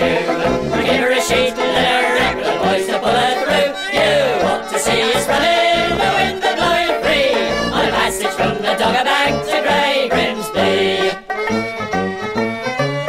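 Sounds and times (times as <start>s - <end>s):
sped up folk song over beat: 0.0s - 13.0s.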